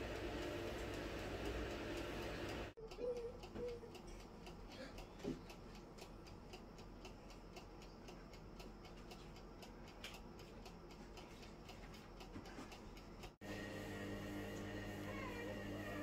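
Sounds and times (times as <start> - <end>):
faint steady ticking: 0.0 - 13.4.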